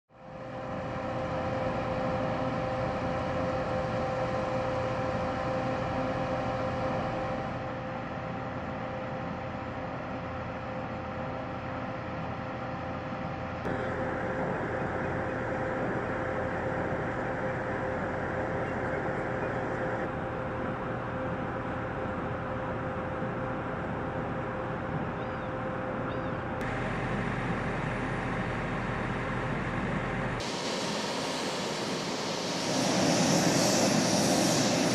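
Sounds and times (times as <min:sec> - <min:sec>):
aircraft engine drone: 0:00.1 - 0:34.9.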